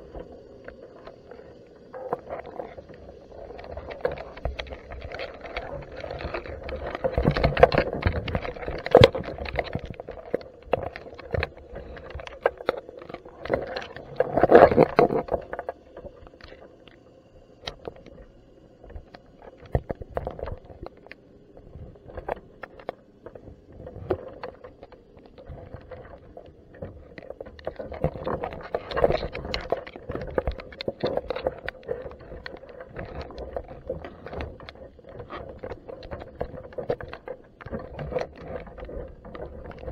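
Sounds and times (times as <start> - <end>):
rushing water: 0.0 - 17.0, 18.8 - 39.9
underwater clicks and knocks: 0.0 - 39.9
underwater low hum: 0.0 - 39.9.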